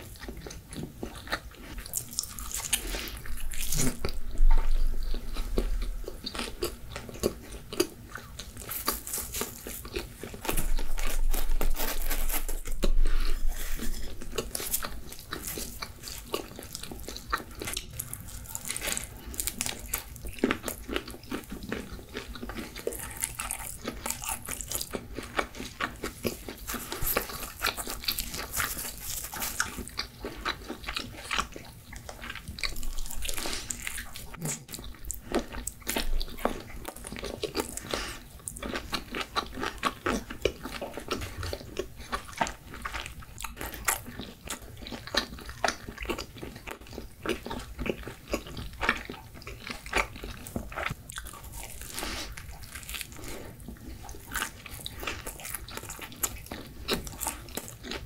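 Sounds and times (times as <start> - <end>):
person biting and chewing pizza: 0.0 - 58.0.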